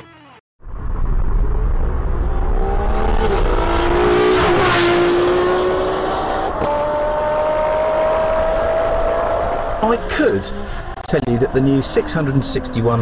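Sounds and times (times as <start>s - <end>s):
car engine accelerating hard: 0.8s - 13.0s.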